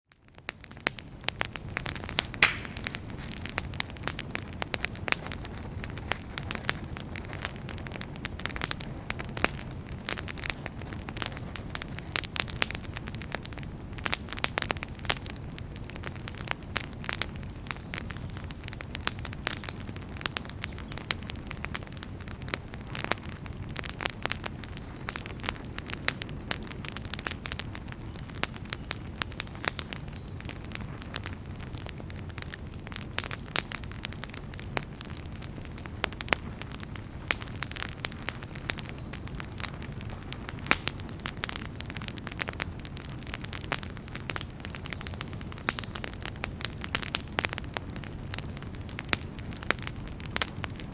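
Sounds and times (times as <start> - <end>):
low fire rumble: 0.1 - 50.9
wood fire crackling and popping: 0.1 - 50.9.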